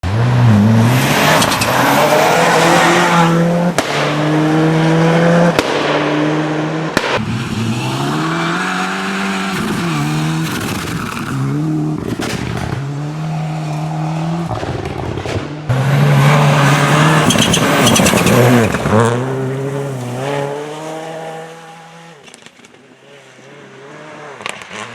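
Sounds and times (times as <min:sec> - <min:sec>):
rally car engines revving: 0:00.0 - 0:24.9.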